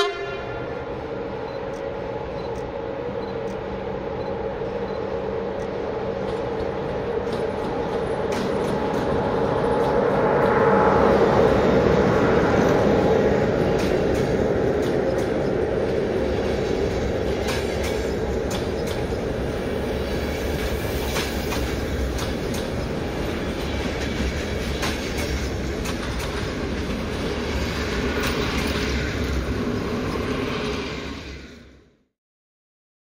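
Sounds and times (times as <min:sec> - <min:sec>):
train coaches rolling by: 0:00.0 - 0:31.9
wheels clicking on rails: 0:01.6 - 0:30.7.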